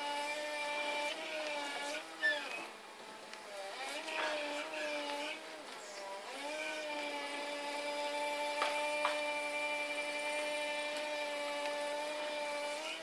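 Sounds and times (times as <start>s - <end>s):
electric forklift motor whining: 0.0s - 13.0s.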